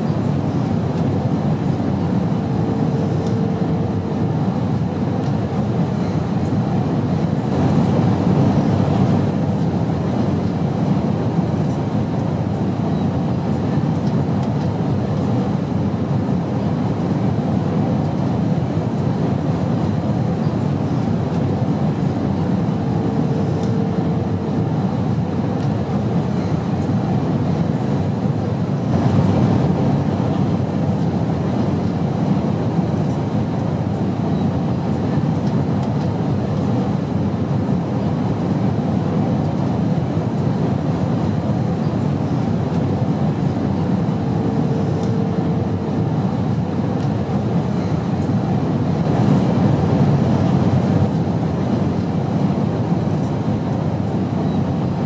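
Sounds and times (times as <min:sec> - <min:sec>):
airplane drone in flight: 0:00.0 - 0:55.0.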